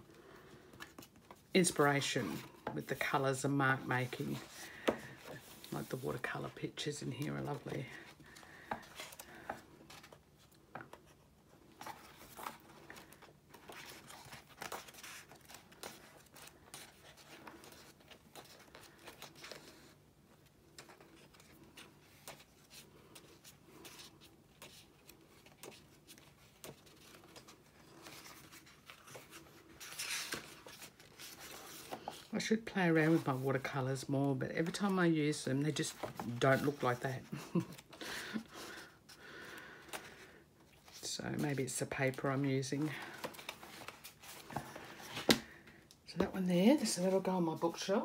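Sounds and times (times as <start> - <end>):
book pages turning: 0.4 - 47.9.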